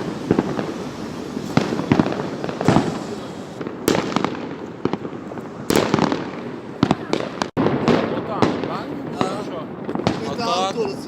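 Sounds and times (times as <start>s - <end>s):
fireworks bangs and pops: 0.0s - 11.0s
fireworks crackling: 0.0s - 11.0s.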